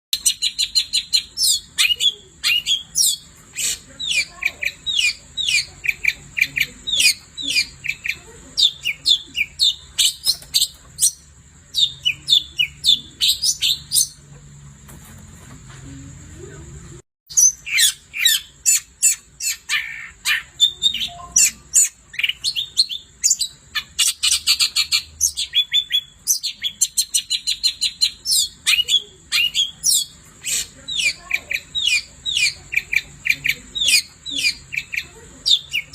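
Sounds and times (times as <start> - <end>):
shrike chattering song: 0.1 - 14.6, 16.5 - 35.9.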